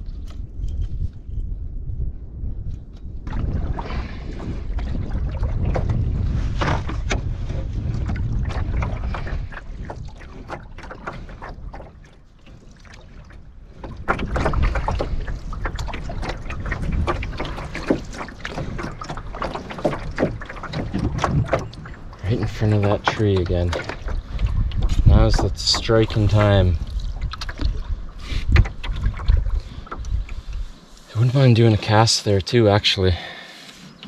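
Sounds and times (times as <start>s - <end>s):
wind rumbling on microphone: 0.0s - 33.2s
water splashing against hull: 2.6s - 34.0s
water lapping: 3.2s - 34.0s.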